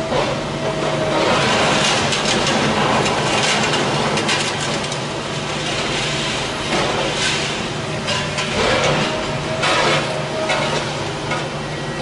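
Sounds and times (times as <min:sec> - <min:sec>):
excavator diesel engine under load: 0:00.0 - 0:12.0
crunching sheet metal and rubble: 0:00.7 - 0:11.7.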